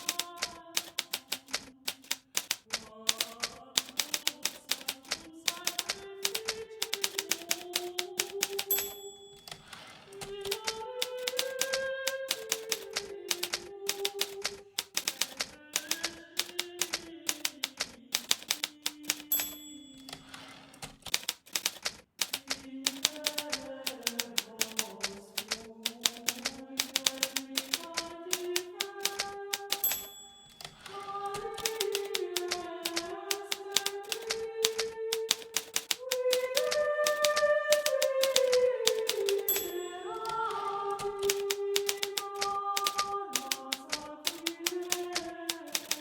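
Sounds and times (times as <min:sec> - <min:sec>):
typewriter keystrokes: 0:00.0 - 0:46.0.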